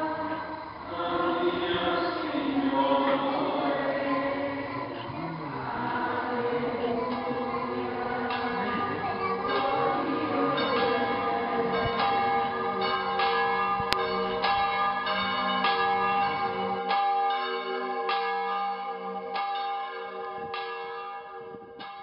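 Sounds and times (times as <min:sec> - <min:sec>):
church bells pealing: 0:00.0 - 0:22.0.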